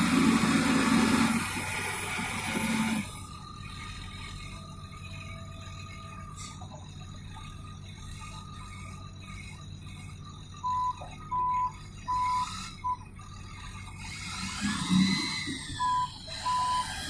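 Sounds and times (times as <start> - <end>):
engine humming: 0.0 - 17.0
truck reversing alarm beeps: 0.5 - 17.0.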